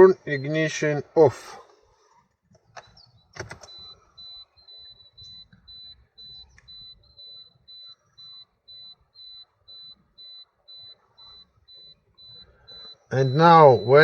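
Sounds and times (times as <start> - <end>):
high electronic warning beeps: 0.0 - 1.6, 2.8 - 14.0.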